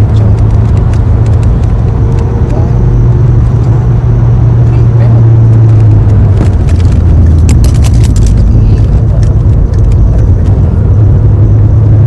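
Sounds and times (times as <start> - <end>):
car engine running at speed: 0.0 - 12.0
road and wind noise: 0.0 - 12.0.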